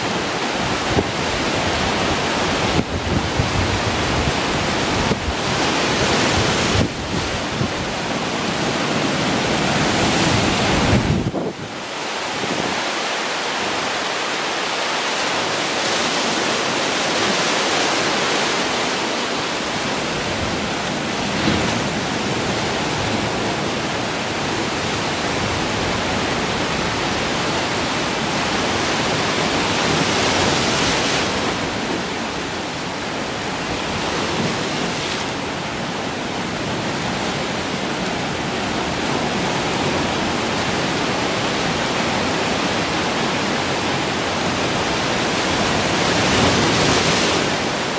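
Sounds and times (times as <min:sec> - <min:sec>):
waves breaking on rocks: 0:00.0 - 0:47.9.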